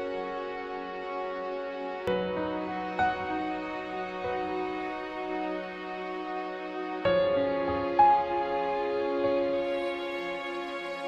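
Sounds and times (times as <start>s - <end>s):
slow sad music of held chords: 0.0s - 11.0s.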